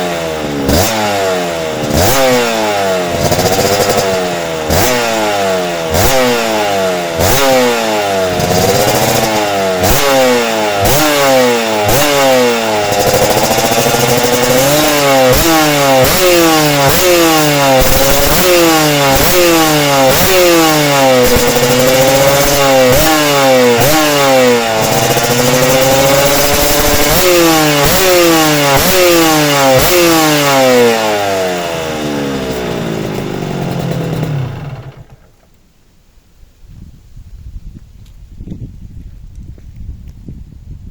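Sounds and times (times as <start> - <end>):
motorcycle engine revving: 0.0 - 35.6.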